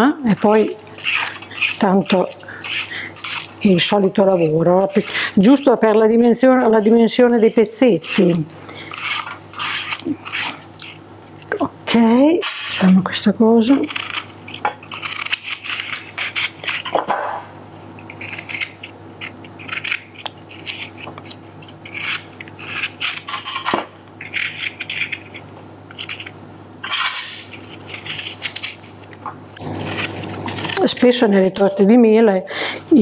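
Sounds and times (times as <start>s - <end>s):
knife slicing apple: 0.2s - 11.5s, 13.7s - 17.5s, 18.1s - 31.8s.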